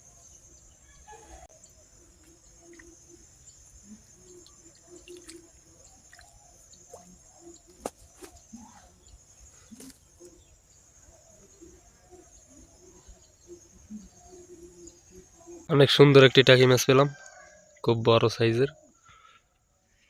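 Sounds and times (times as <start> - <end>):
high insect drone: 0.0 - 17.8.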